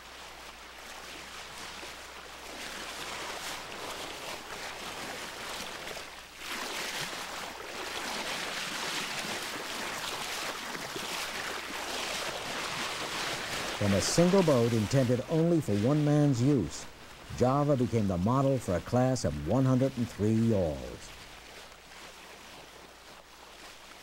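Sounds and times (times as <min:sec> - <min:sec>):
water rushing past boat hull: 0:00.0 - 0:24.0.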